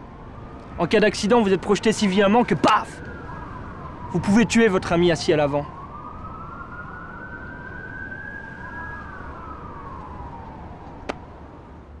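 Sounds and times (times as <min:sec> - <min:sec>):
siren wailing: 0:00.0 - 0:11.4.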